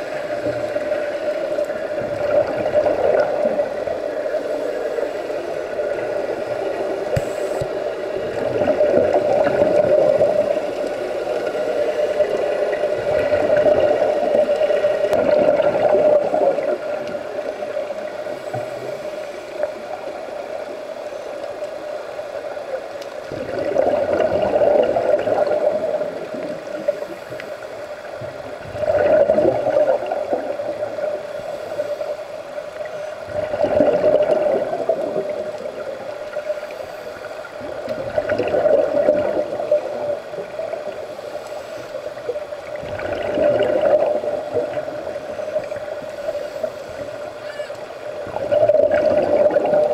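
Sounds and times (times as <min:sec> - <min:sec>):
underwater air bubbling: 0:00.0 - 0:49.9.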